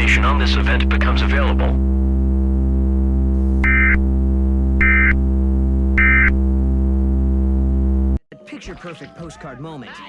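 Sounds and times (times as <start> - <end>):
low electronic drone: 0.0 - 8.2.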